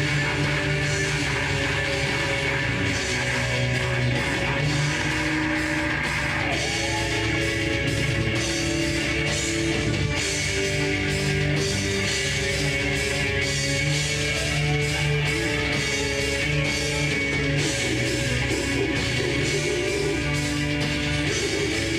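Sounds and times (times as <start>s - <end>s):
drum kit beat: 0.0s - 21.9s
electric guitars: 0.0s - 21.9s.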